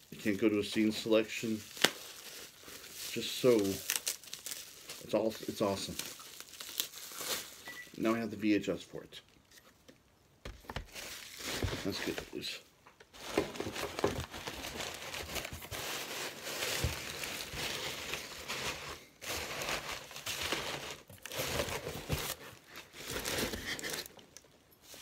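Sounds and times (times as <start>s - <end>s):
packing paper crinkling: 0.0s - 7.8s, 10.8s - 25.0s.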